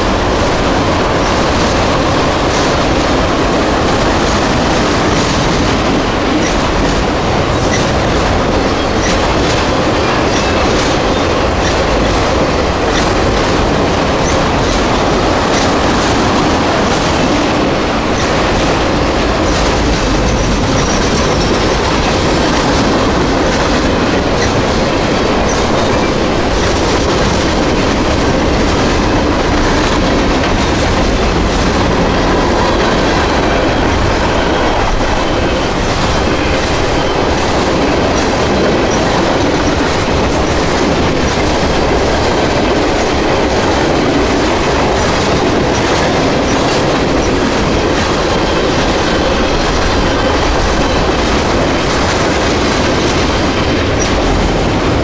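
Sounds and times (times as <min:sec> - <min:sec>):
freight train rumbling past: 0:00.0 - 0:55.0
steel wheels clattering on rails: 0:00.0 - 0:55.0.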